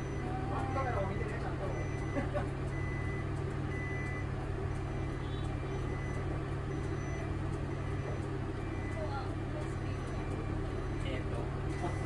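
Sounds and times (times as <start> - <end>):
bus engine humming: 0.0 - 12.0
reversing warning beeps: 0.0 - 12.0.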